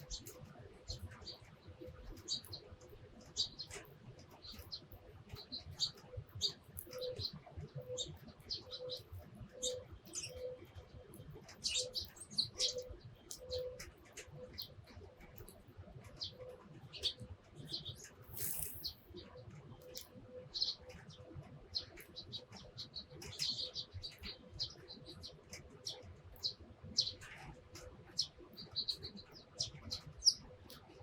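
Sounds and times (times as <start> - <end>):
sparrows chirping: 0.0 - 31.0.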